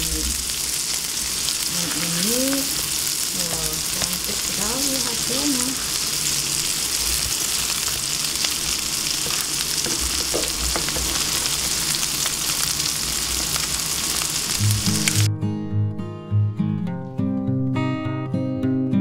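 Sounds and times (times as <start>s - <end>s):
fritters sizzling in a frying pan: 0.0s - 15.3s.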